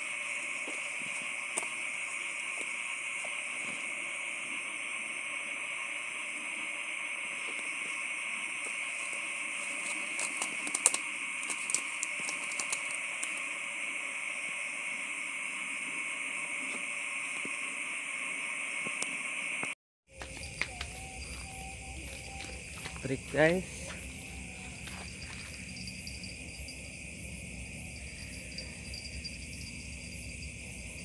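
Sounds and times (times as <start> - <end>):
night insects chirring: 0.0 - 31.0.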